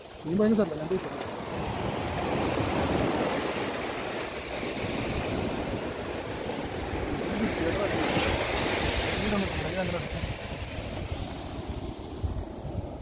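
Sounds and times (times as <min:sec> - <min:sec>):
waves washing up a beach: 0:00.0 - 0:13.0.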